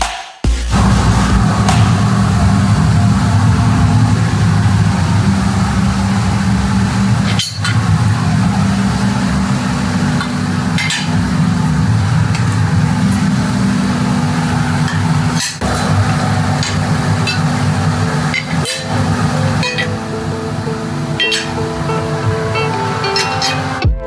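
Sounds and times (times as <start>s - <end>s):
welding arc buzzing with hiss: 0.7s - 23.9s.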